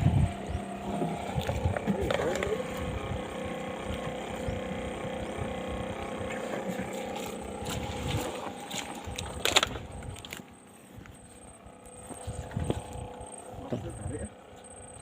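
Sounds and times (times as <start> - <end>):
motor running: 0.0 - 15.0.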